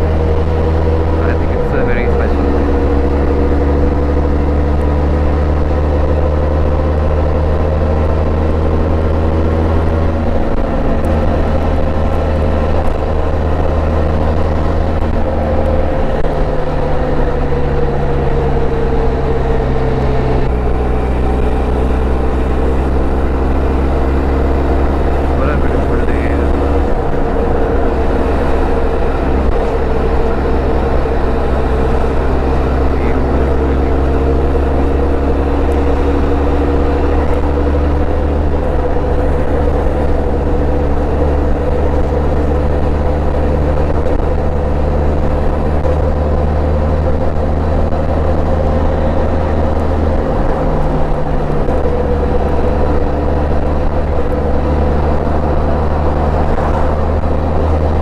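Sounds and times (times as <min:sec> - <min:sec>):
motorcycle engine cruising: 0:00.0 - 0:58.0
riding wind rush: 0:00.0 - 0:58.0.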